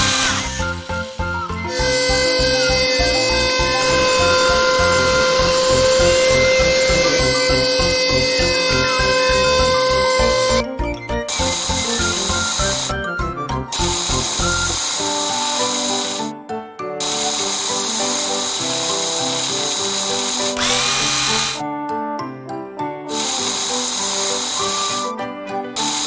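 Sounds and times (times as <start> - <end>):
power drill whirring: 0.0 - 10.7, 11.3 - 13.1, 13.7 - 16.3, 17.0 - 21.6, 23.1 - 25.2, 25.8 - 26.0
background music: 0.0 - 26.0.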